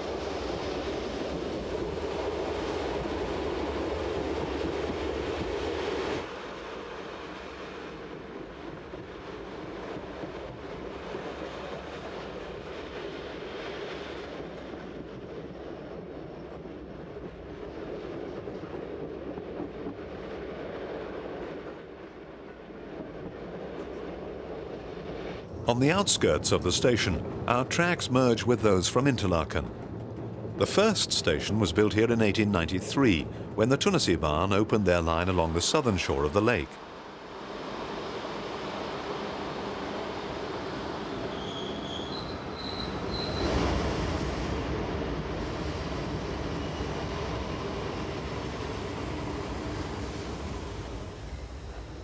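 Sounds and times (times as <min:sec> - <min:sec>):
train rolling on rails: 0:00.0 - 0:52.0.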